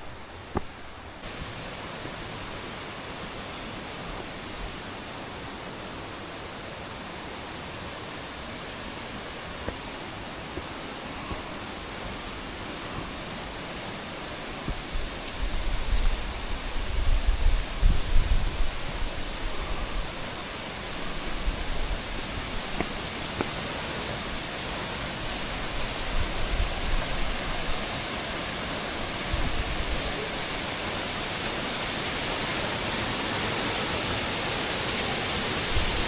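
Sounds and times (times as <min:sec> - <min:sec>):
rushing water: 0:00.0 - 0:36.0.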